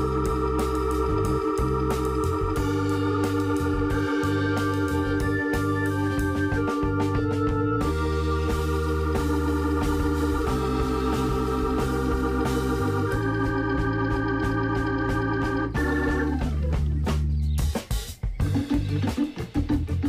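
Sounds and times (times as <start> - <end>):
held keyboard chords: 0.0 - 20.0
steady bass: 0.0 - 20.0.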